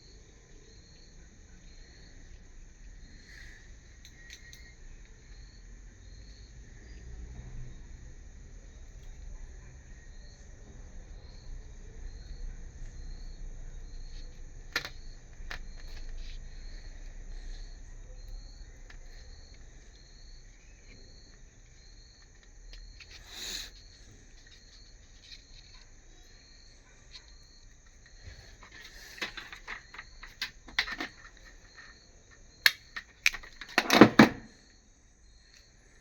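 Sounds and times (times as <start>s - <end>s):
cricket chirping: 0.0s - 36.0s.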